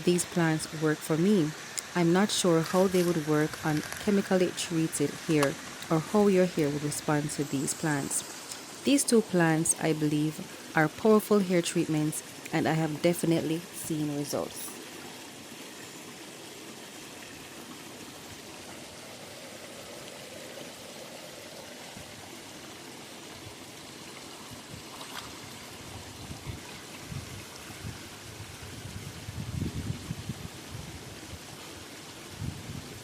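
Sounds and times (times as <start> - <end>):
river water flowing: 0.0 - 29.3.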